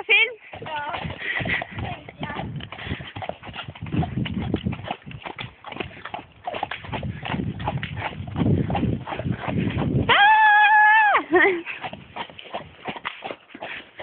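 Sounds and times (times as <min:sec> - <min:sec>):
horse hooves on snow: 0:00.0 - 0:14.0.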